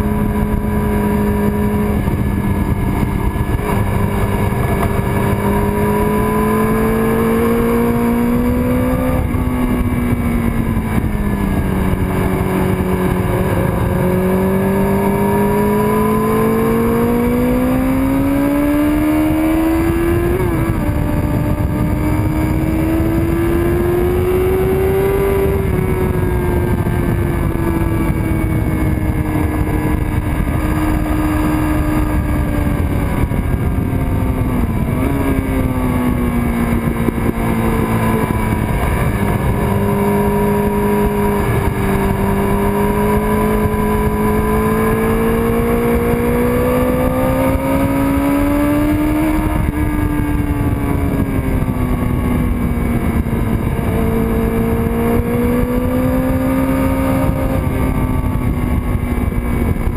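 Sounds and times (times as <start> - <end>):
motorcycle engine at speed: 0.0 - 59.9
rushing wind: 0.0 - 59.9.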